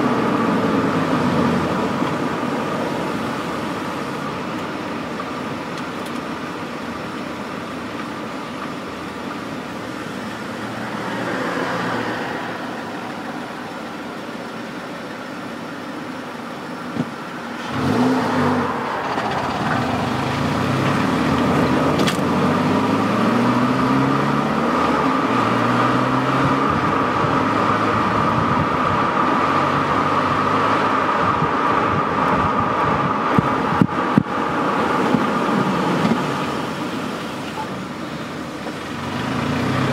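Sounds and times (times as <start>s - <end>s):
car accelerating: 0.0s - 6.0s, 6.6s - 15.3s, 16.2s - 39.9s.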